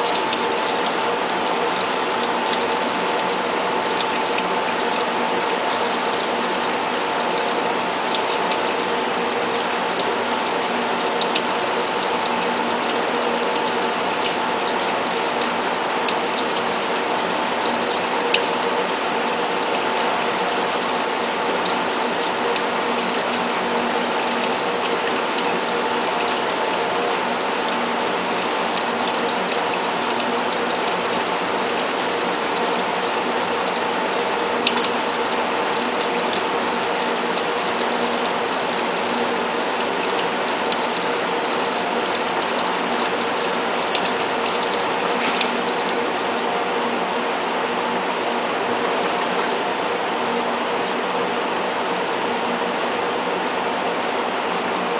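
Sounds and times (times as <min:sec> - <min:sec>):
machine hum: 0:00.0 - 0:54.9.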